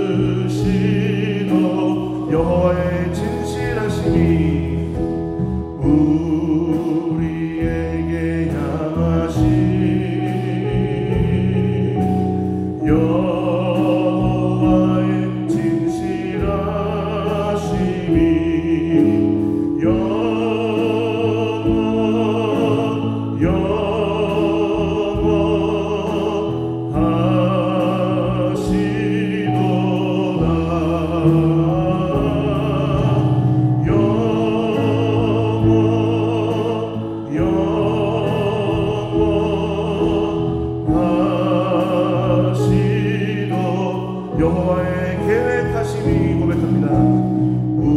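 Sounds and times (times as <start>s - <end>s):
electric bass: 0.0s - 47.9s
group of singers: 0.0s - 47.9s.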